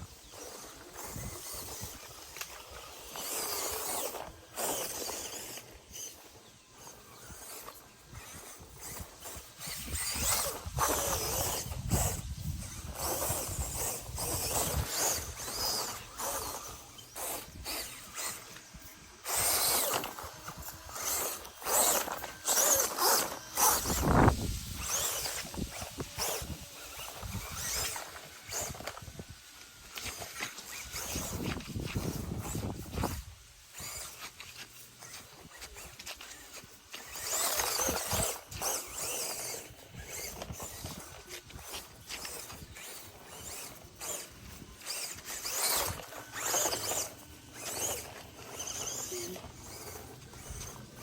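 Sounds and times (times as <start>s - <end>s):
small electric motor whining: 0.0s - 51.0s
tires crunching over dirt: 0.0s - 51.0s.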